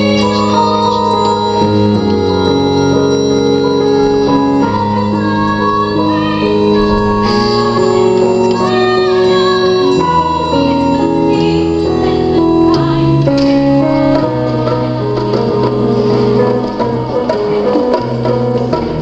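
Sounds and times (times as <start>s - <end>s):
show tune keyboard chords: 0.0s - 19.0s.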